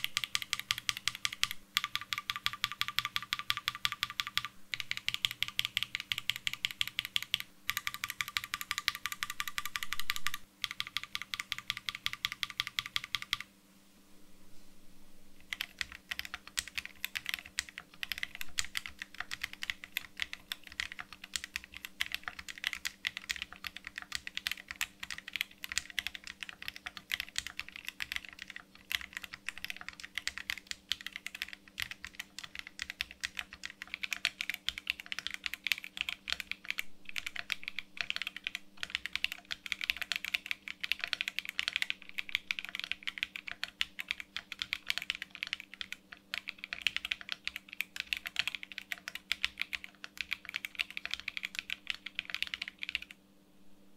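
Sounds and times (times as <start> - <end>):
fast typing on mechanical keyboard: 0.0 - 13.5, 15.4 - 53.2.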